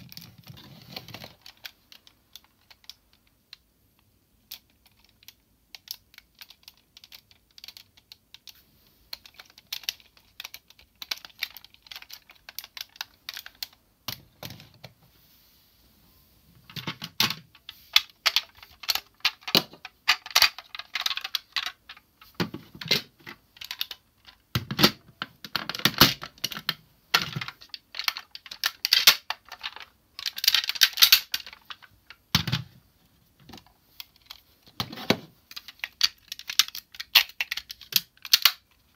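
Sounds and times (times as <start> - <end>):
plastic toy parts clicking and snapping: 0.0 - 3.6, 4.4 - 14.7, 16.7 - 32.7, 33.4 - 34.4, 35.5 - 38.9.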